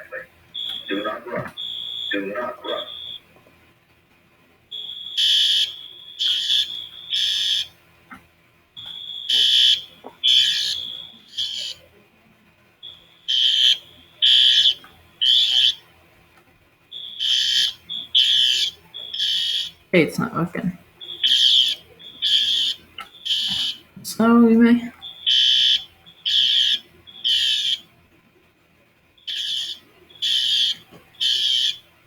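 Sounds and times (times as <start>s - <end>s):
fire alarm beeps: 0.0s - 3.3s, 4.7s - 7.8s, 8.8s - 11.9s, 12.8s - 15.9s, 16.9s - 27.9s, 29.2s - 31.9s
faint steady alarm tone: 0.0s - 32.0s.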